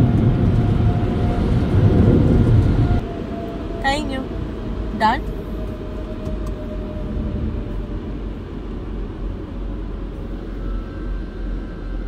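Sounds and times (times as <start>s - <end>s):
car wash rumble and hiss: 1.8s - 12.0s.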